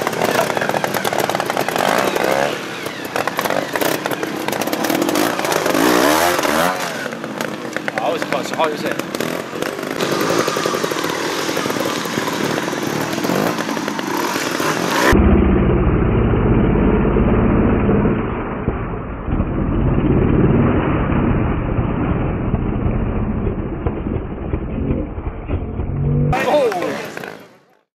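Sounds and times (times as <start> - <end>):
motorcycle engine revving: 0.0 - 27.8
slowed-down engine sound: 0.0 - 27.8.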